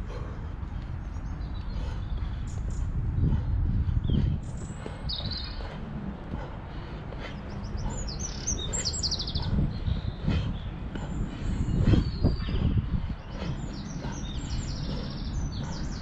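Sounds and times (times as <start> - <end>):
low rumble: 0.0 - 16.0
small birds chirping: 0.0 - 16.0.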